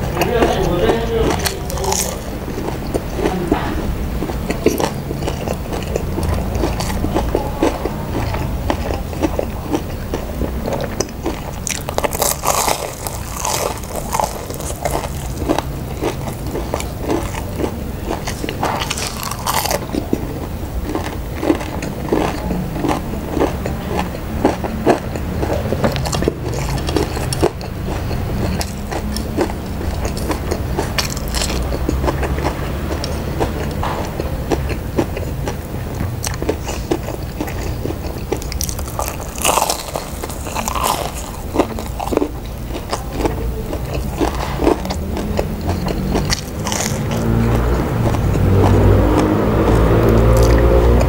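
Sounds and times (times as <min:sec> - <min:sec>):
crunchy chewing: 0:00.0 - 0:51.0.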